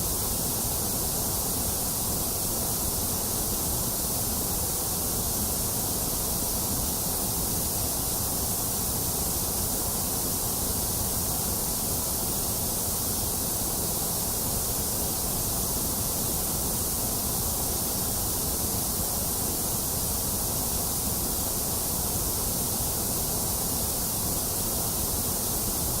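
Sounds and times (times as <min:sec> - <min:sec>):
electronic white noise hiss: 0:00.0 - 0:26.0.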